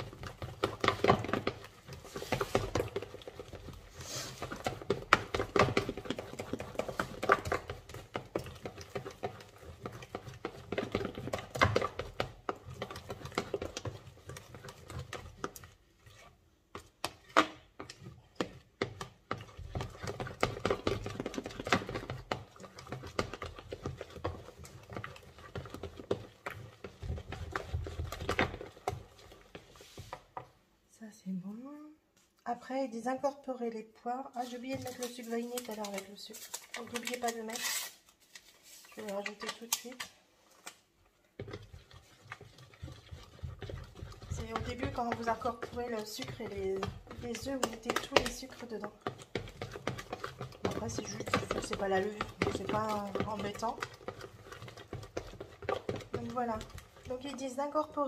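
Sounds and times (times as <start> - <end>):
spoon stirring batter in a bowl: 0.0 - 30.8, 34.2 - 58.0.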